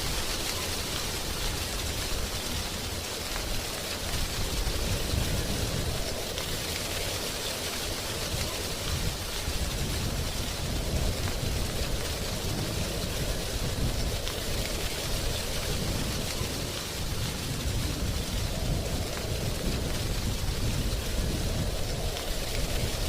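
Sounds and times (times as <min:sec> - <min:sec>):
wind rustling tree leaves: 0:00.0 - 0:23.0.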